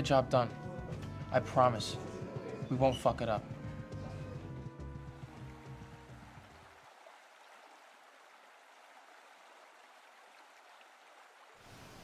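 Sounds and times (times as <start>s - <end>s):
pool water trickling and lapping: 2.0s - 12.0s.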